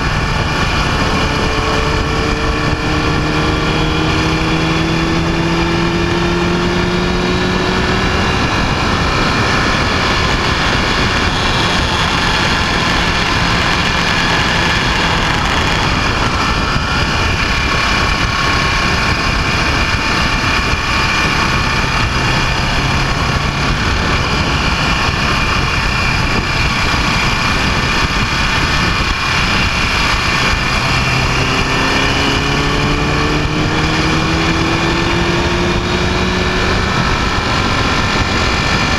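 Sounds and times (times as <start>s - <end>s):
heavy wind noise: 0.0s - 38.9s
motorcycle engine accelerating: 0.0s - 38.9s.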